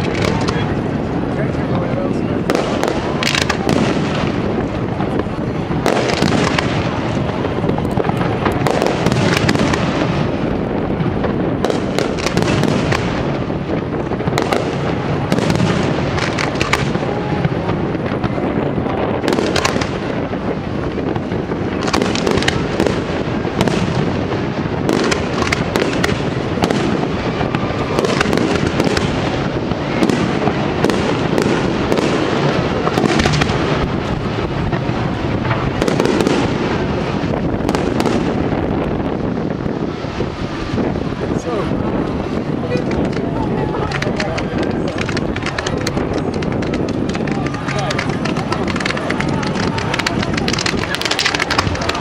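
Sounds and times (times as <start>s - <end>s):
firework shells bursting: 0.0s - 1.6s, 2.4s - 41.2s, 42.0s - 52.0s.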